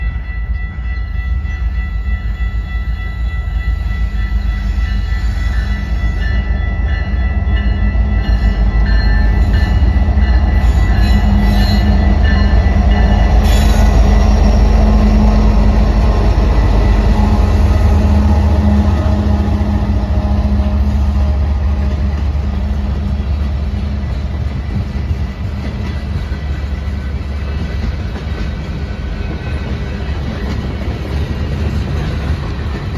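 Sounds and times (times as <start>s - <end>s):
freight train passing: 0.0s - 32.9s.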